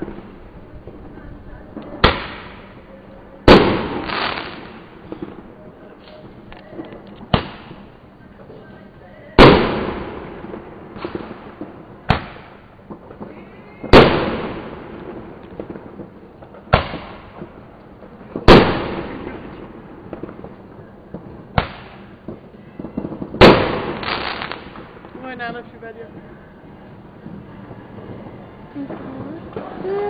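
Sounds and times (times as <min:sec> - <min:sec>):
big firework bangs echoing: 0:00.0 - 0:08.6, 0:09.2 - 0:30.0
small firecracker bangs: 0:01.9 - 0:02.8, 0:03.5 - 0:07.9, 0:09.4 - 0:25.7, 0:27.2 - 0:30.0.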